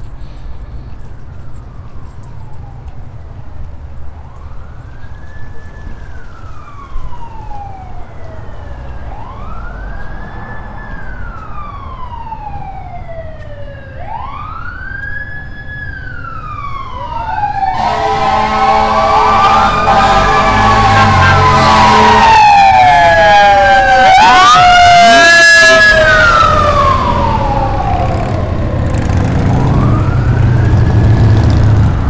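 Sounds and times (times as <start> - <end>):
street traffic rumble: 0.0 - 32.0
emergency vehicle siren wailing: 1.4 - 32.0.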